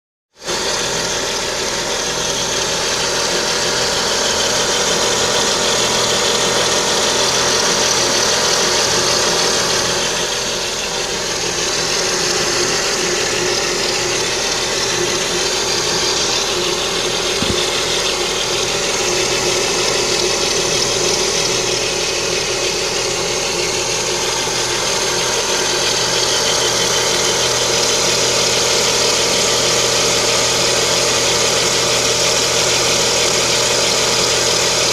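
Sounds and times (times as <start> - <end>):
car engine idling: 0.5 - 34.9.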